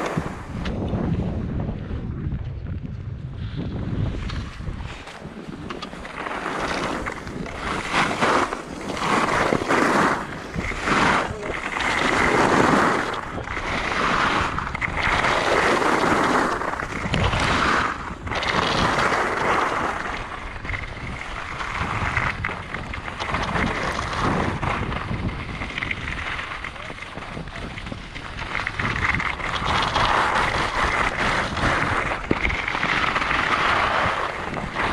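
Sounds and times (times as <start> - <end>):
skis scraping on snow: 0.0 - 0.9, 3.4 - 34.9
wind buffeting microphone: 0.0 - 34.9.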